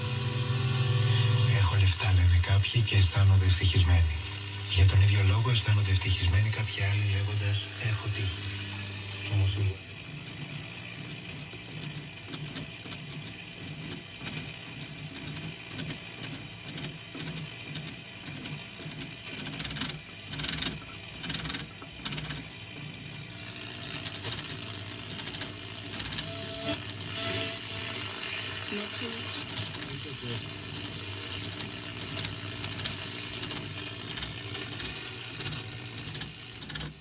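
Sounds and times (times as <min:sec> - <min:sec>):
receiver noise and hum: 0:00.0 - 0:35.6
radio tuning gear clicking: 0:01.4 - 0:37.0.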